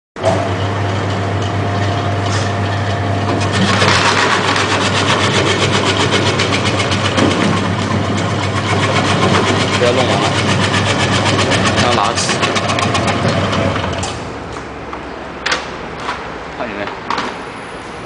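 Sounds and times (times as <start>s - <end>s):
motor hum: 0.2s - 15.2s.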